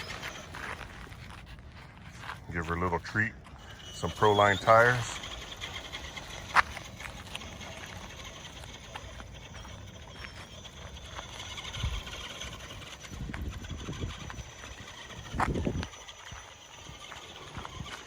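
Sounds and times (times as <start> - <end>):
faint motor whine: 0.0 - 18.0.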